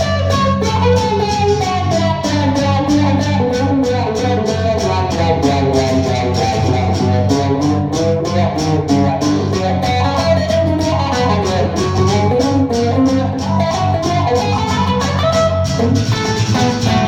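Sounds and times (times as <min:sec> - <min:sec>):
bass part: 0:00.0 - 0:17.0
guitars strummed: 0:00.0 - 0:17.0.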